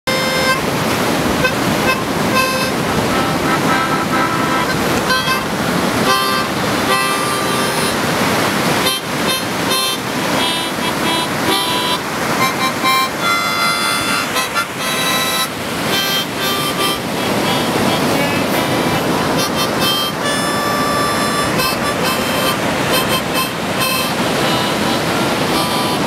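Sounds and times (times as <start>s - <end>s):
harmonica chords: 0.1s - 26.0s
steady rushing noise: 0.1s - 26.0s.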